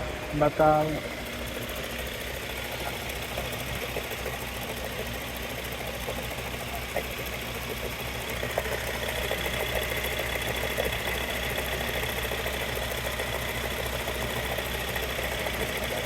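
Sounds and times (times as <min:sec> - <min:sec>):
gearbox whine: 0:00.0 - 0:16.0.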